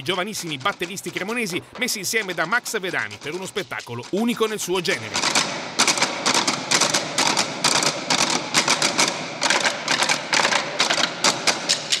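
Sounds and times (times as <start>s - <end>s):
drumsticks beating wooden stools: 0.0s - 12.0s.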